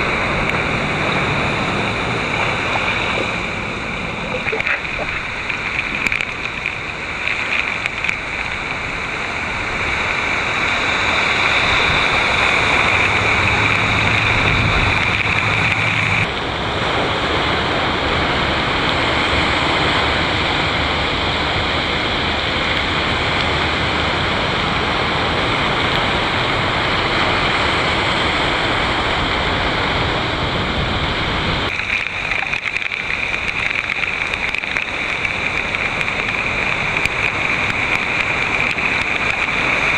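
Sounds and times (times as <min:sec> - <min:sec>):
heavy rain pouring: 0:00.0 - 0:39.9
low vehicle engine: 0:00.0 - 0:39.9
tyres splashing through water: 0:00.0 - 0:39.9.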